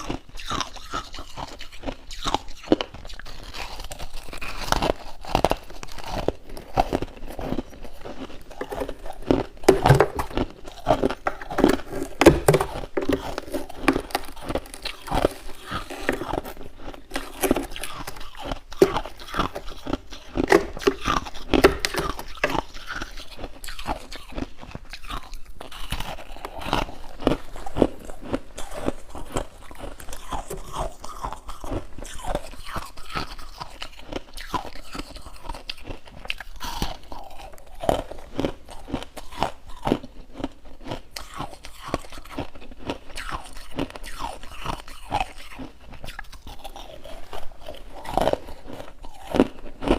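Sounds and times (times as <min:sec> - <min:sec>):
chewing crunchy frost: 0:00.0 - 0:49.9.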